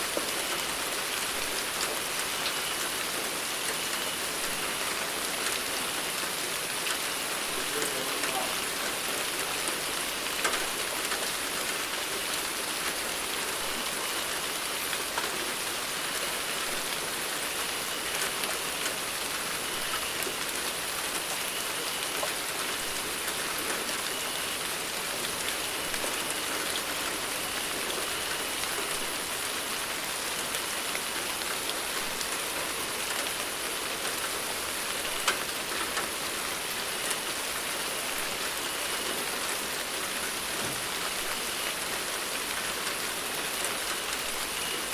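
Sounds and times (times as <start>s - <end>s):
raindrops striking a surface: 0.0s - 44.9s
steady rain falling: 0.0s - 44.9s.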